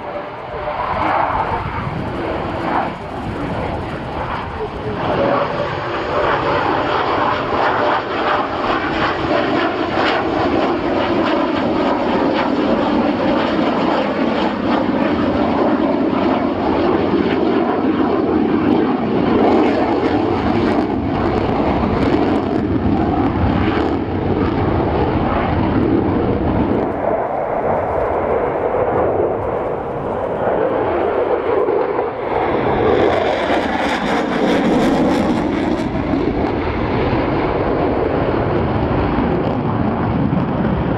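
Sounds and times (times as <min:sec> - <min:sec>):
jet roar flying past: 0:00.0 - 0:40.9.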